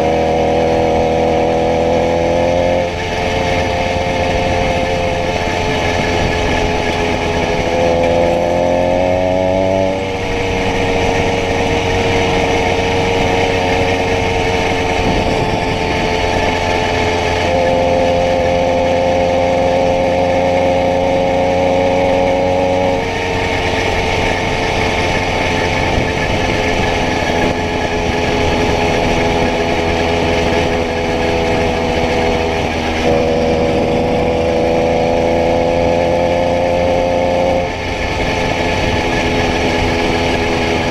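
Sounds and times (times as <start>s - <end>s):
small motorbike engine running: 0.0s - 40.9s.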